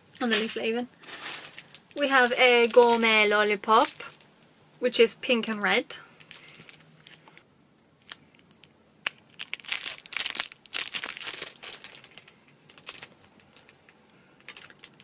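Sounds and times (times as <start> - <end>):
plastic wrapper crinkling: 0.2 - 4.3, 6.2 - 7.4, 8.0 - 15.0.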